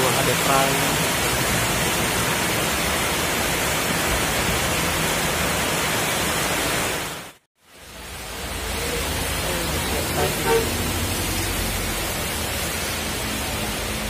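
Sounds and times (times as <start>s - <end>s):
heavy rain on a road: 0.0s - 14.0s.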